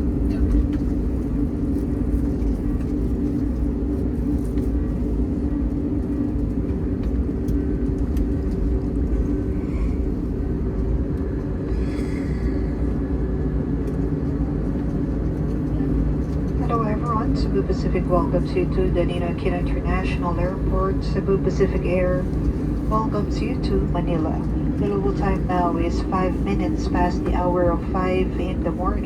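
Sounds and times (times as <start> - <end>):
airplane cabin rumble: 0.0 - 29.0
constant hum: 0.0 - 29.0.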